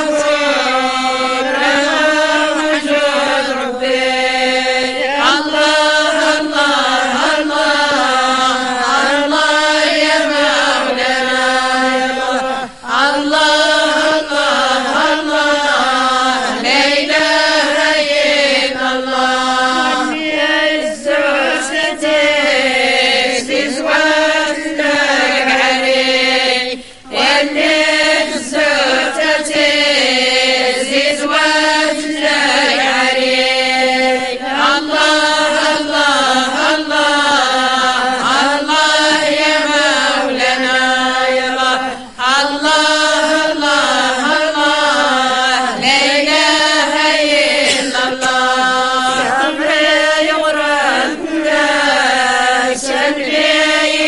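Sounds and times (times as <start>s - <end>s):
women chanting a devotional song: 0.0s - 54.0s.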